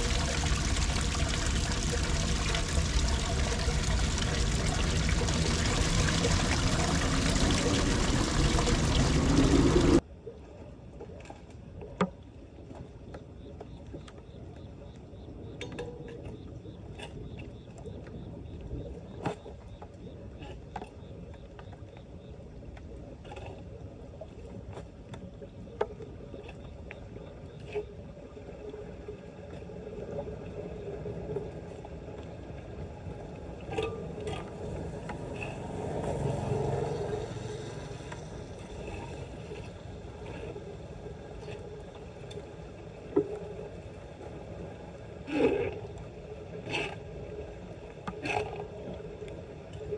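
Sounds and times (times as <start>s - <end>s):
floodwater sloshing and splashing: 0.0s - 14.4s, 15.2s - 49.9s.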